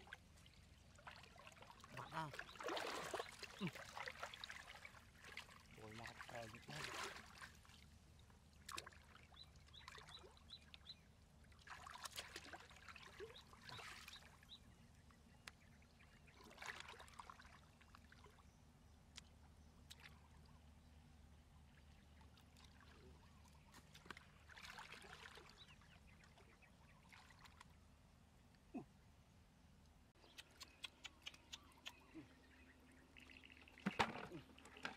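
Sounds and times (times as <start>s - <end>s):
water sloshing from wading: 0.0s - 14.6s, 16.1s - 28.9s, 30.2s - 34.9s.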